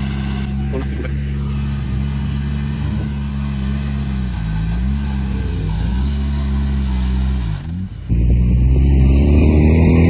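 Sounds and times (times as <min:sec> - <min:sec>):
vehicle engines running under load: 0:00.0 - 0:10.0.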